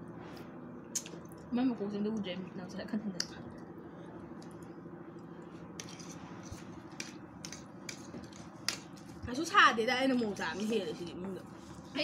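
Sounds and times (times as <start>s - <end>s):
low steady background hum: 0.0s - 12.0s.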